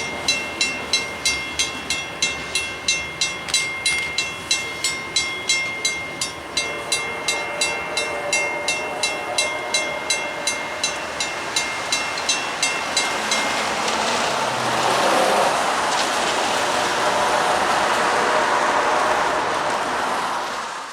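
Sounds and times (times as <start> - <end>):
electronic railroad crossing bells: 0.0 - 20.4
passing road traffic: 0.0 - 20.9.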